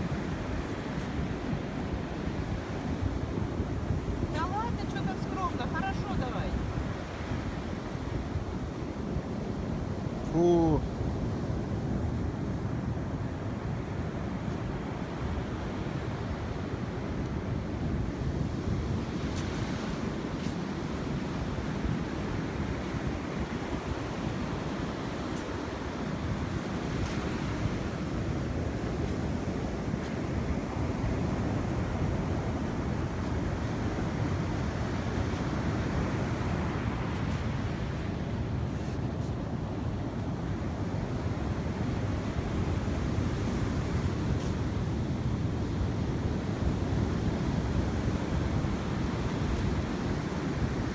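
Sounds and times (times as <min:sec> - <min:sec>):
sea waves washing onto shore: 0:00.0 - 0:50.9
wind on microphone: 0:00.0 - 0:50.9.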